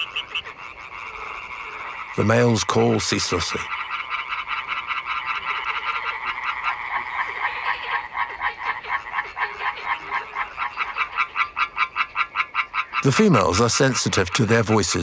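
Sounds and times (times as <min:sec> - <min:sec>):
tree frogs calling: 0:00.0 - 0:15.0.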